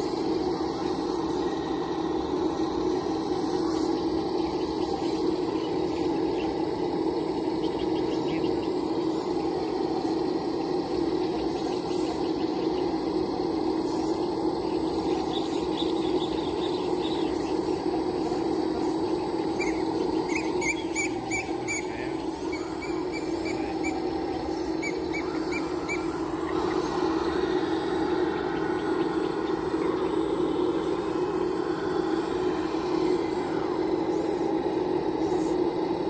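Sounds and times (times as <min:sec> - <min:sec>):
hydraulic pump whine: 0:00.0 - 0:36.0
birds chirping: 0:02.5 - 0:34.9.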